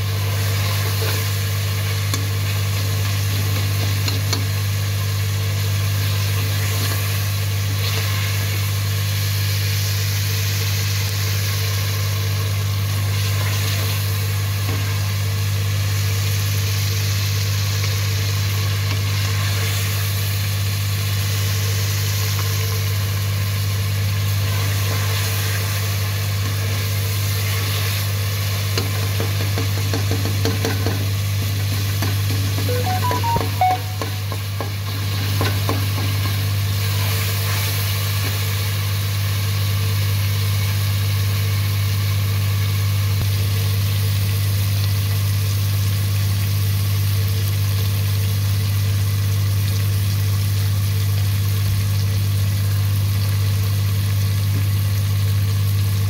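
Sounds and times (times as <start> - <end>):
food sizzling in oil: 0.0 - 56.0.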